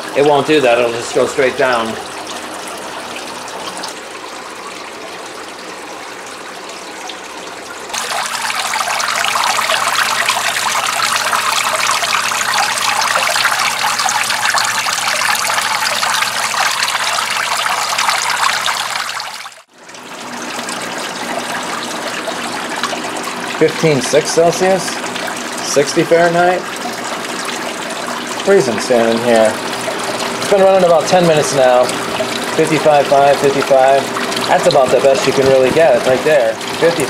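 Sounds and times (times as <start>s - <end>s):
box fan running: 0.0s - 19.3s, 20.2s - 37.0s
water trickling and splashing: 0.0s - 37.0s.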